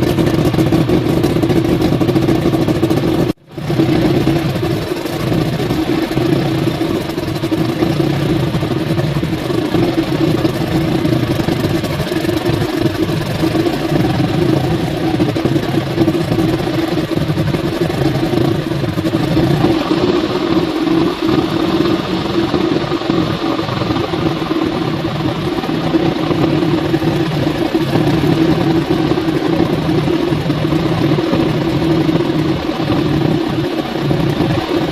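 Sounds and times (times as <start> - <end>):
outboard engine running: 0.0 - 34.9.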